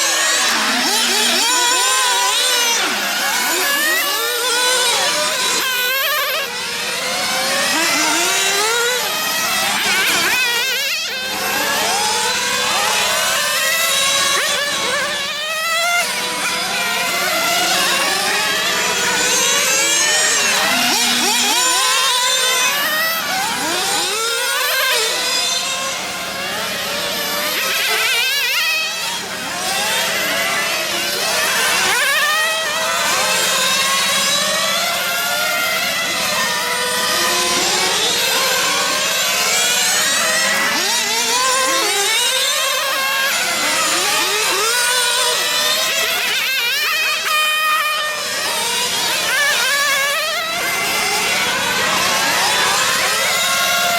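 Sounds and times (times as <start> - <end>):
small nitro engines whining: 0.0 - 53.9.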